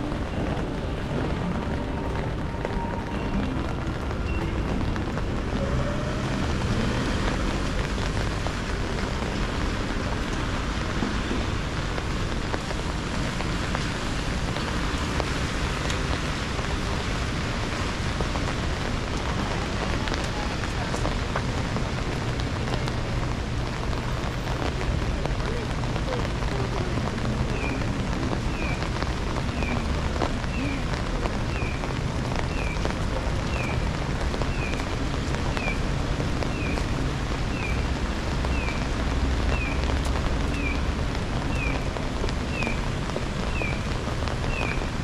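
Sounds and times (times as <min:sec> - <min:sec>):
steady rainfall: 0:00.0 - 0:45.0.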